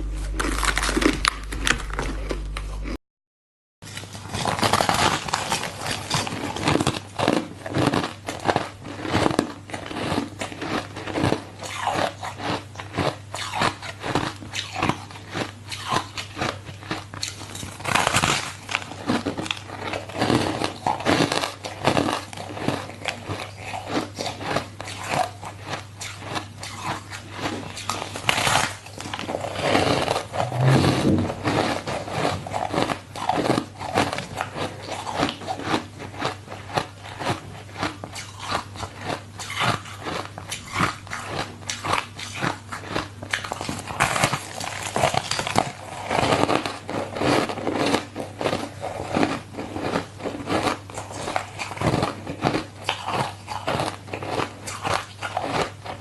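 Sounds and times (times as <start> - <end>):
ice being chewed: 3.9 - 56.0.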